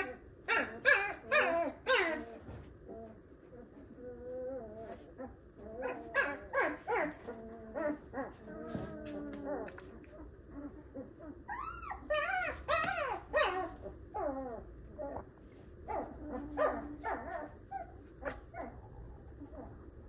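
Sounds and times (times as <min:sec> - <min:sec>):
puppy whimpering and squealing: 0:00.0 - 0:15.3, 0:15.9 - 0:18.8, 0:19.4 - 0:19.9.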